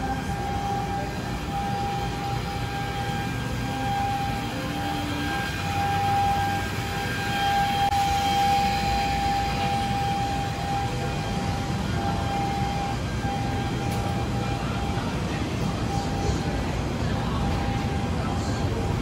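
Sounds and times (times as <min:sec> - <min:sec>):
city street noise: 0:00.0 - 0:19.0
steady mid-pitched tone: 0:00.0 - 0:19.0.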